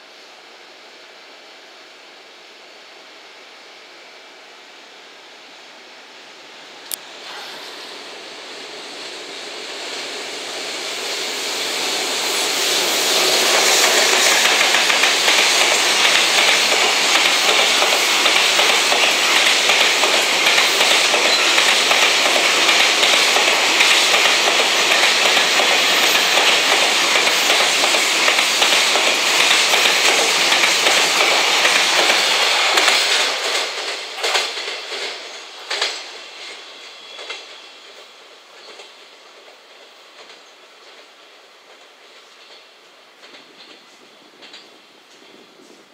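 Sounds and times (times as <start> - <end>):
freight train wheels rumbling: 6.8 - 45.9.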